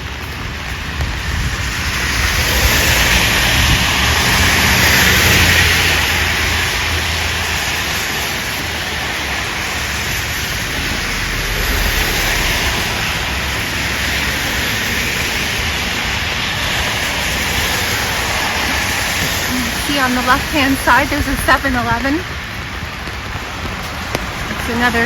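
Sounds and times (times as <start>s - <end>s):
tyres hissing on wet road: 0.0s - 25.0s
vehicle engine rumble: 0.0s - 25.0s.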